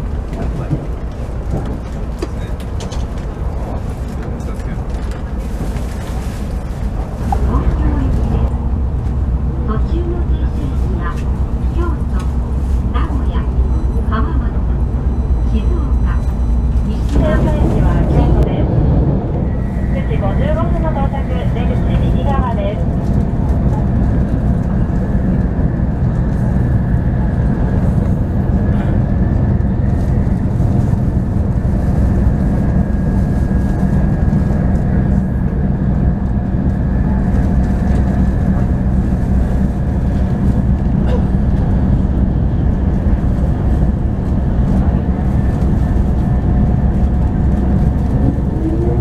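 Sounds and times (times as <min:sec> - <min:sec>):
train cabin rumble: 0:00.0 - 0:49.0.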